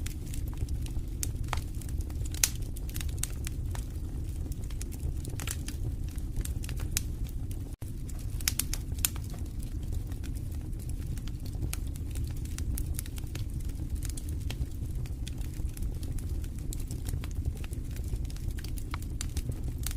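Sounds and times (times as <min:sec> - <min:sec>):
low rumble of flames: 0:00.0 - 0:19.9
wood fire crackling and popping: 0:00.0 - 0:19.9.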